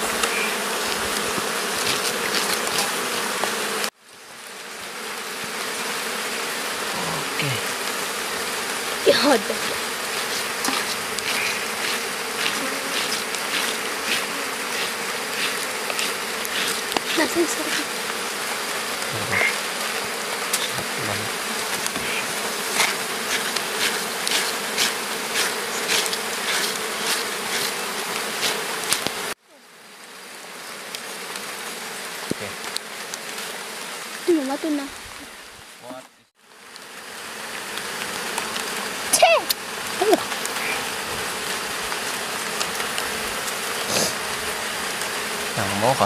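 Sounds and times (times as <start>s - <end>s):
honeybees buzzing: 0.0s - 35.8s, 36.4s - 46.0s.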